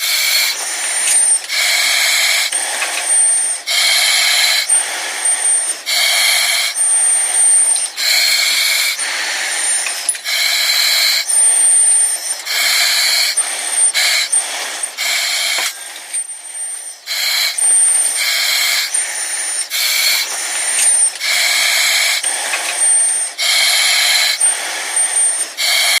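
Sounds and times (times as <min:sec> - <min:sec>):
hissing breaths through mask: 0:00.0 - 0:26.0.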